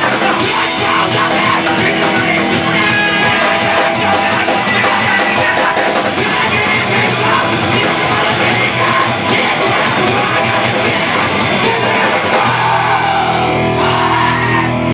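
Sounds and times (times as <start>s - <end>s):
distorted electric guitar: 0.0s - 14.9s
drum kit pounding: 0.0s - 14.9s
punk band playing live: 0.0s - 14.9s.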